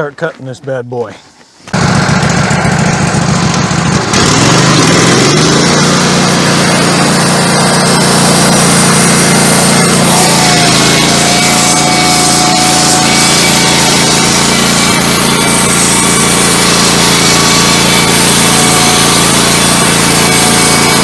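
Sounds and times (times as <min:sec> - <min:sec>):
sawmill engine revving: 0:01.7 - 0:21.0
thin whine: 0:01.8 - 0:21.0.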